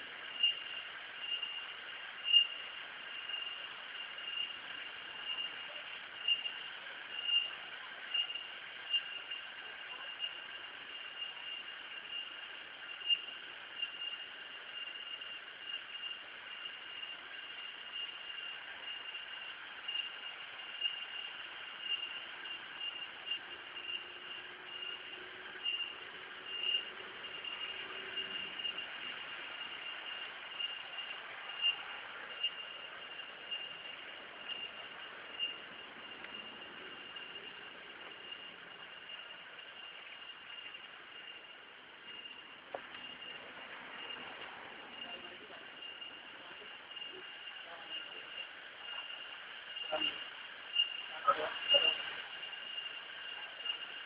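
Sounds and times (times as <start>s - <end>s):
insects shrilling: 0.0s - 54.0s.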